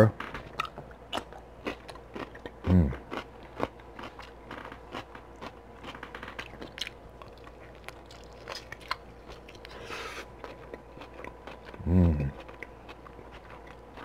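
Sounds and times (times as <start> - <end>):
person chewing meat: 0.1 - 14.0.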